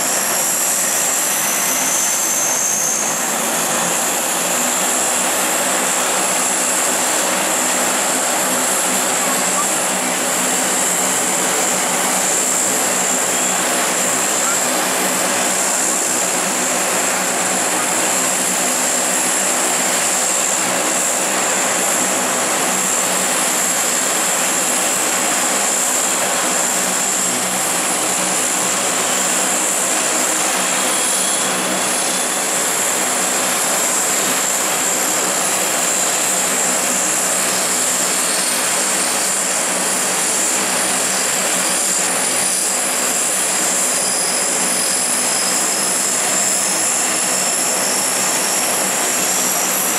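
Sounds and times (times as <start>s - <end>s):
turboprop engines running: 0.0s - 49.9s.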